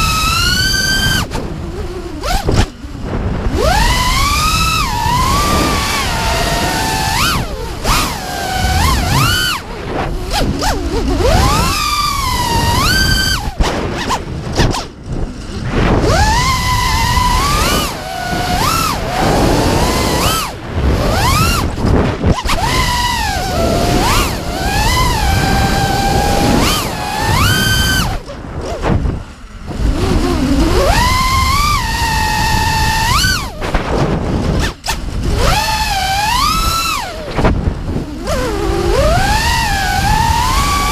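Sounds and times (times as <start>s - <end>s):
drone motors whining: 0.0s - 40.9s
wind rush on microphone: 0.0s - 40.9s.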